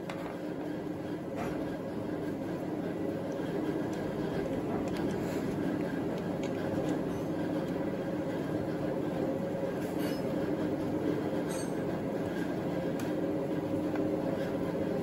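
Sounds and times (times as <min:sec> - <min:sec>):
steady machinery hum: 0:00.0 - 0:15.0.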